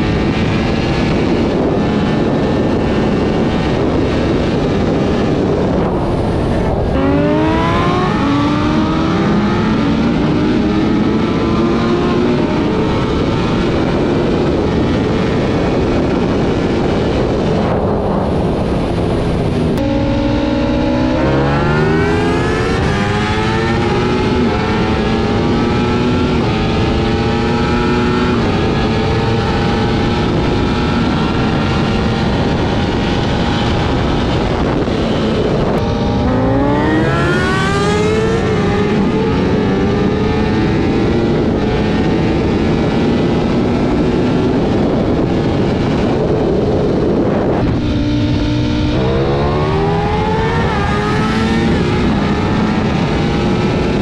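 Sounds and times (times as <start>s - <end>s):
heavy wind rush: 0.0s - 54.0s
motorcycle engine at high speed: 0.0s - 54.0s.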